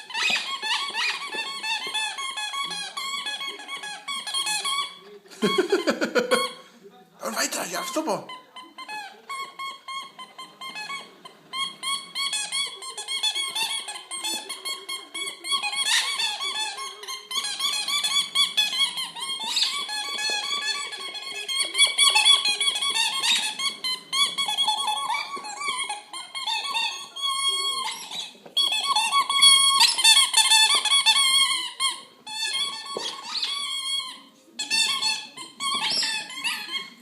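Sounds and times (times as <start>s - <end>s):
squeaky toy squeaking: 0.0s - 6.6s, 7.2s - 37.0s.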